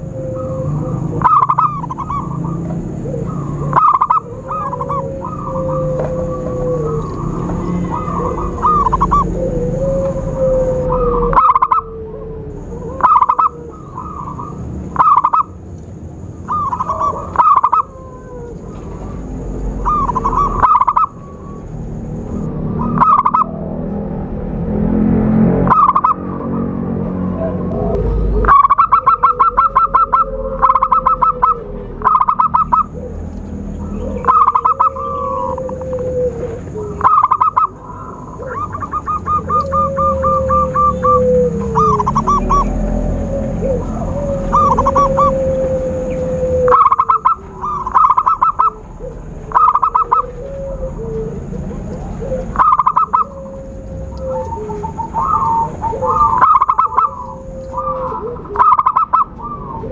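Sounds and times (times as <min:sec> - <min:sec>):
doves cooing: 0:00.0 - 0:59.9.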